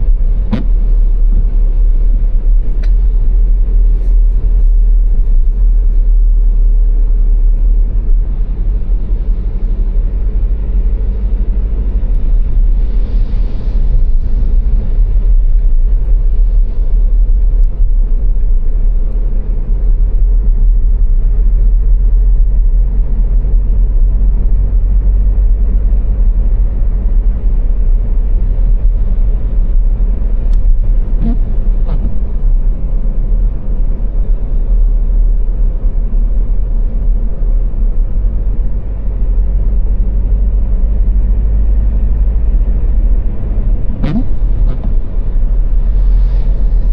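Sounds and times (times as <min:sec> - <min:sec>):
car road rumble: 0:00.0 - 0:46.9.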